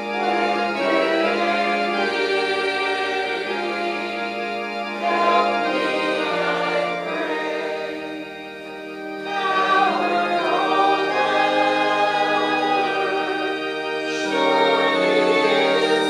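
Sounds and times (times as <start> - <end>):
congregation singing a hymn: 0.0 - 16.0
organ accompaniment: 0.0 - 16.0.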